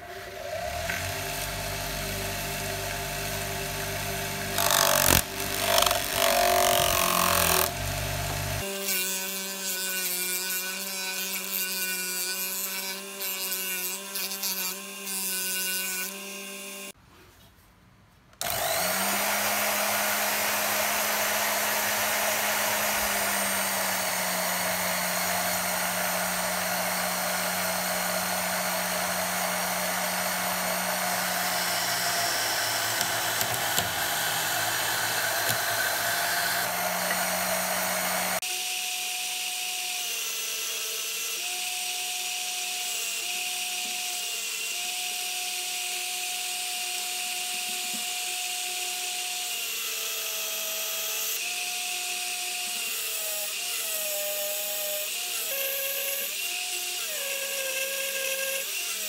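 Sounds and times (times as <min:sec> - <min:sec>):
band saw motor and blade: 0:00.0 - 0:17.0, 0:18.4 - 0:59.0.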